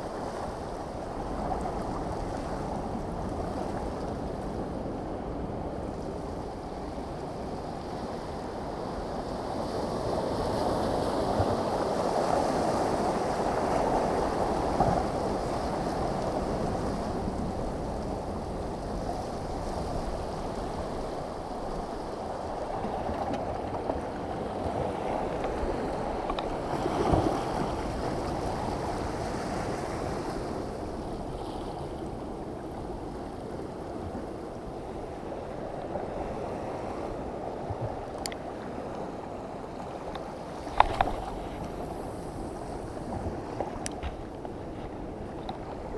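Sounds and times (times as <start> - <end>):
muffled ocean waves: 0.0 - 45.9
wind: 0.0 - 45.9.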